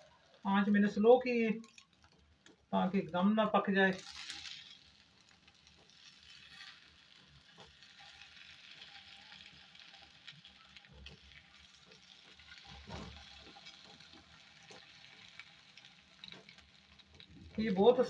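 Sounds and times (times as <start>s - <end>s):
eggs sizzling in a pan: 0.0s - 18.0s.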